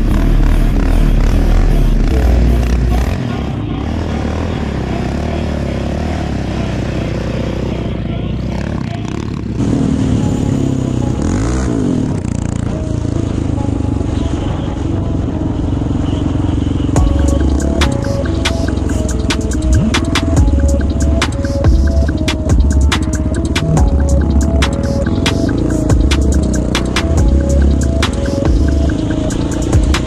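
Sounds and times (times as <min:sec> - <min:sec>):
quad engine revving: 0:00.0 - 0:14.0, 0:14.9 - 0:30.0
motorbikes riding: 0:00.0 - 0:30.0.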